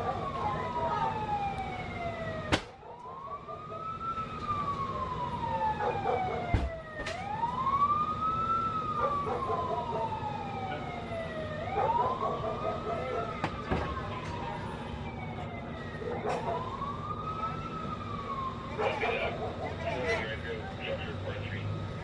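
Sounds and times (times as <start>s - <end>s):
fire engine siren wailing: 0.0s - 22.0s.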